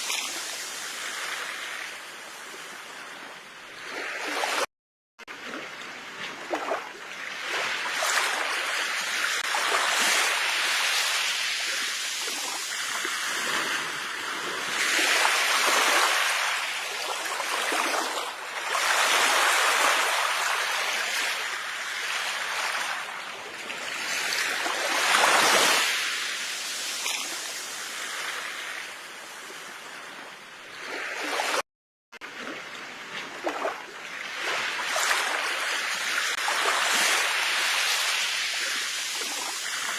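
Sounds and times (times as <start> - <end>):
ocean waves breaking on shore: 0.0 - 31.6, 32.2 - 39.9.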